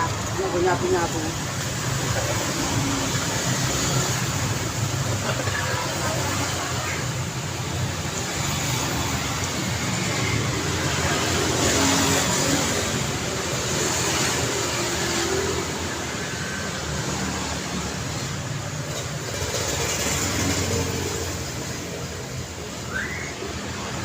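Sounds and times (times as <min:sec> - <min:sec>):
passing motor vehicles: 0:00.0 - 0:24.0.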